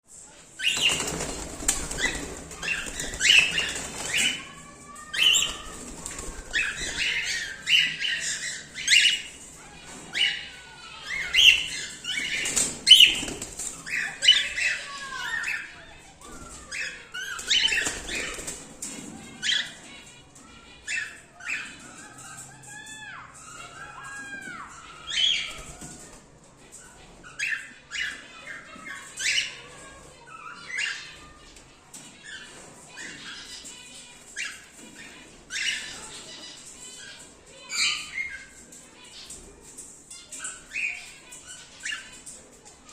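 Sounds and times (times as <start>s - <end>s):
cockatiels chirping and squawking: 0.2s - 42.9s.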